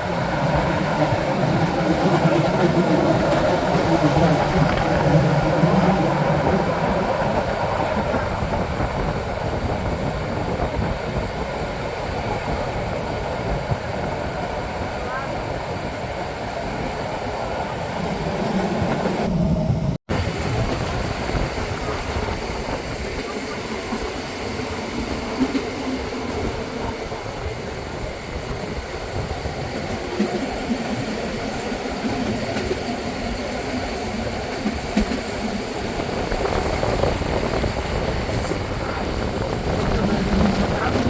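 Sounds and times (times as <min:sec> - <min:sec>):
train rolling on track: 0:00.0 - 0:41.0.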